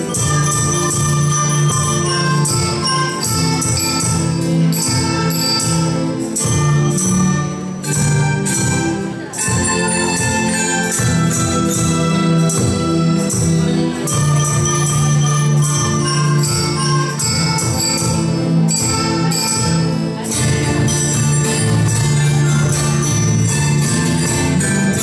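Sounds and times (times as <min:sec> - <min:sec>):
metallophone melody: 0:00.0 - 0:25.0
wind instruments holding notes: 0:00.0 - 0:25.0.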